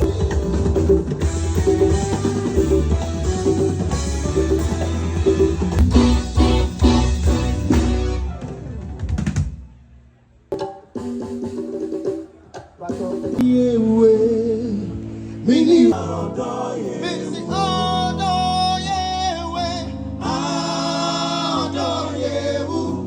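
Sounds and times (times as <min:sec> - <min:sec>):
live band playing: 0:00.0 - 0:21.4.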